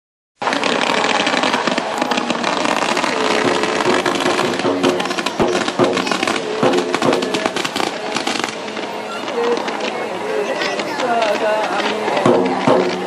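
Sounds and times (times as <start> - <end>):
fireworks crackling: 0.4 - 13.0.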